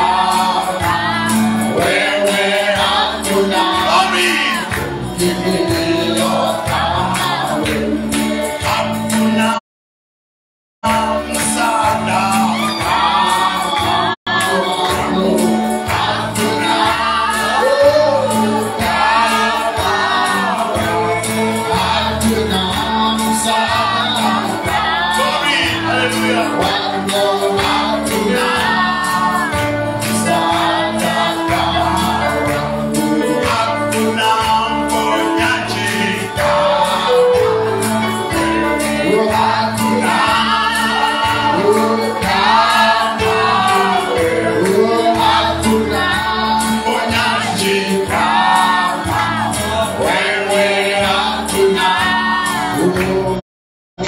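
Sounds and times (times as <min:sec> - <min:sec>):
band with steady beat: 0:00.0 - 0:09.6, 0:10.8 - 0:53.4
voices singing together: 0:00.0 - 0:09.6, 0:10.8 - 0:53.4.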